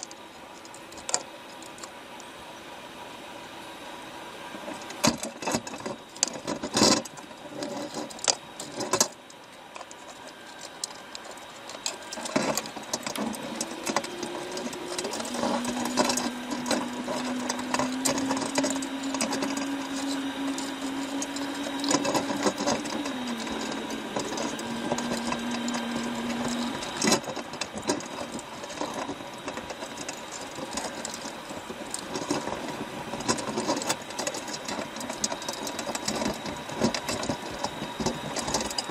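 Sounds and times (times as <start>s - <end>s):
sea and wind: 0.0s - 38.9s
hydraulic whine: 1.4s - 38.9s.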